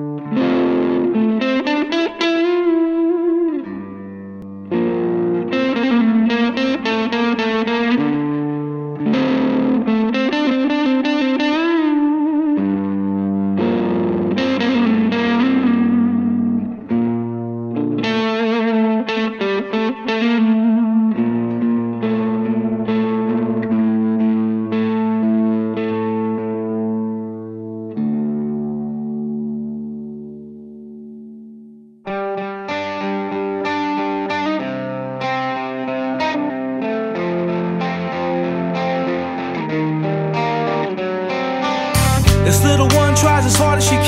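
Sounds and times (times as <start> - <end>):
distorted electric guitar melody: 0.0 - 44.0.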